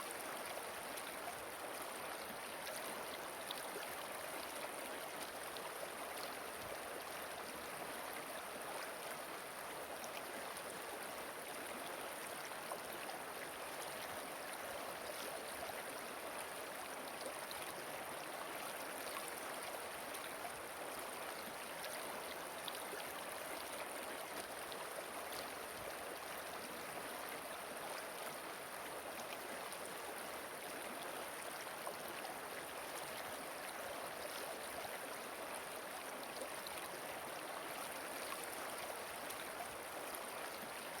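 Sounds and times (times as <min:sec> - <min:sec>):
flowing water: 0:00.0 - 0:41.0.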